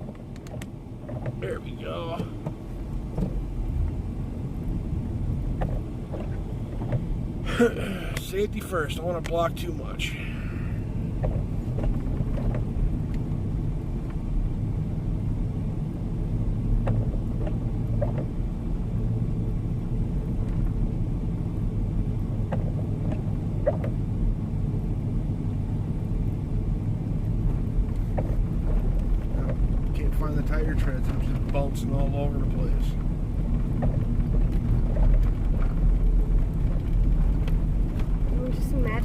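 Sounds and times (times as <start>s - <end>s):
vehicle rumble driving on snow: 0.0s - 39.0s.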